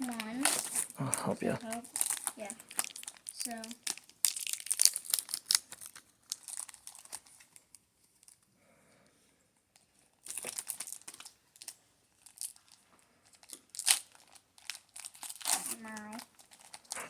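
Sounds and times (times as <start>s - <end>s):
foil wrappers crinkling and tearing: 0.0s - 8.4s, 10.1s - 17.0s.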